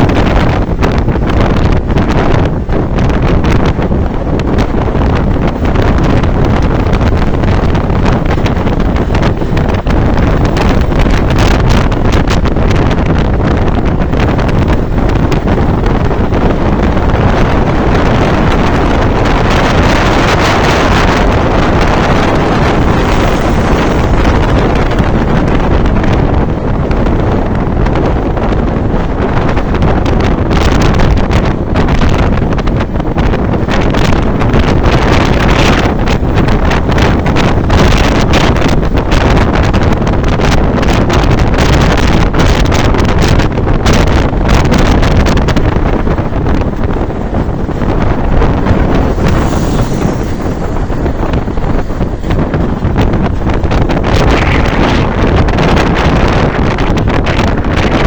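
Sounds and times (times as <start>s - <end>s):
heavy wind buffeting microphone: 0.0s - 58.0s.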